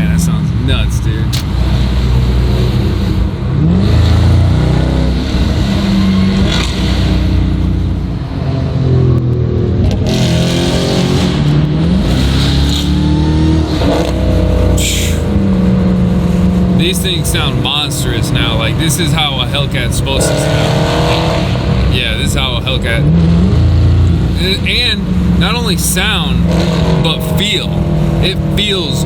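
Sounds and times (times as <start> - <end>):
car engine revving loudly: 0.0 - 29.0.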